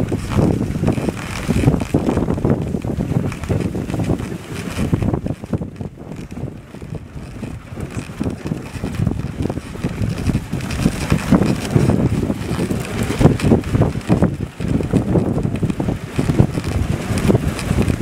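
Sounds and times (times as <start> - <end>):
sled running on packed snow: 0.0 - 18.0
wind buffeting microphone: 0.0 - 18.0.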